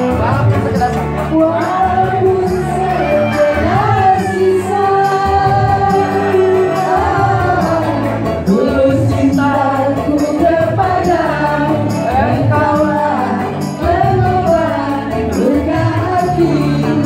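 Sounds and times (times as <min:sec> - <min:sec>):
backing music with bass: 0:00.0 - 0:17.0
women singing into microphones: 0:00.0 - 0:17.0.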